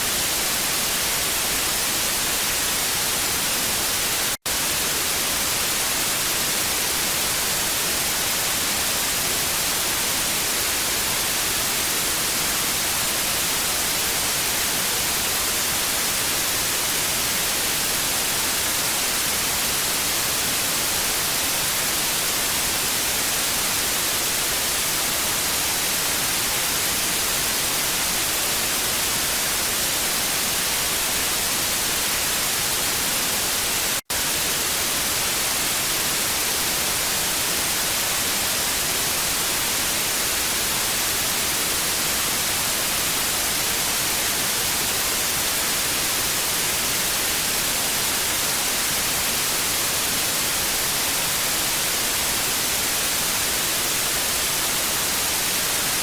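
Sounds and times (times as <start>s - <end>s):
tv static hiss: 0.0s - 56.0s.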